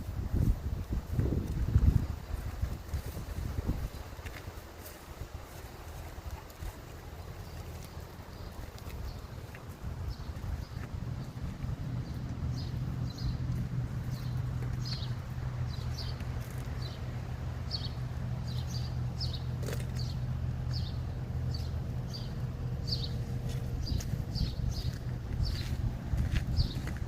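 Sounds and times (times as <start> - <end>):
engine idling hum: 0.0 - 27.0.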